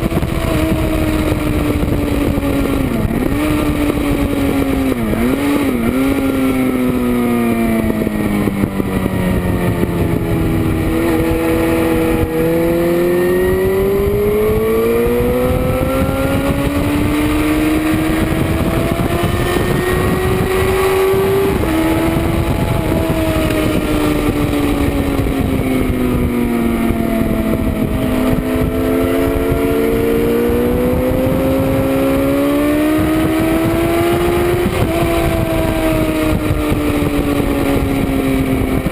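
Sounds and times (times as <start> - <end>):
motorcycle engine at speed: 0.0 - 38.9
wind noise: 0.0 - 38.9.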